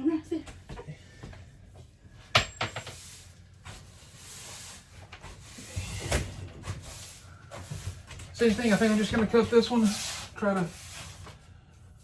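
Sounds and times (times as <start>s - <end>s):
scraping and rubbing on paneling: 1.5s - 12.0s.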